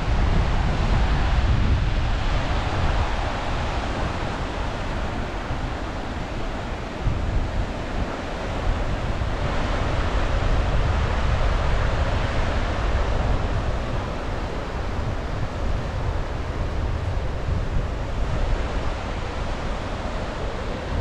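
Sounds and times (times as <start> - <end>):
sea waves breaking on beach: 0.0 - 21.0
wind rumbling on microphone: 0.0 - 21.0.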